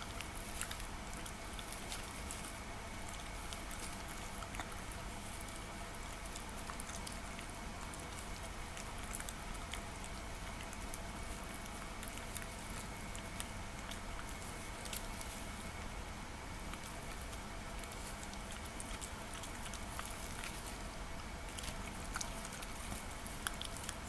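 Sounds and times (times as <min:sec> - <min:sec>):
dog chewing wet food: 0:00.0 - 0:24.0
low background hum: 0:00.0 - 0:24.0.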